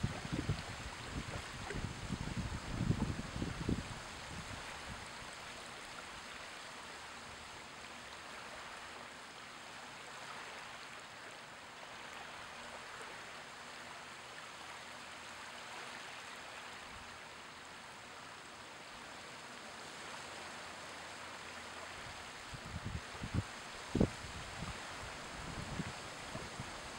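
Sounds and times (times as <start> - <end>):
small waves washing on shore: 0.0 - 26.9.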